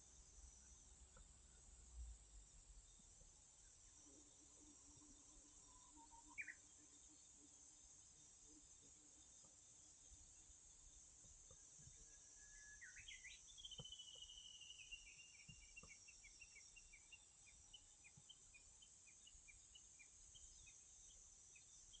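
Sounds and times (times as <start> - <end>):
bird song: 0.0 - 22.0.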